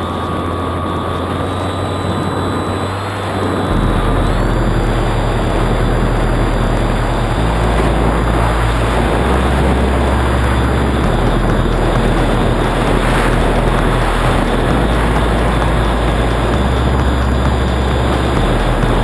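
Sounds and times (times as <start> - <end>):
wind rushing: 3.4 - 19.0.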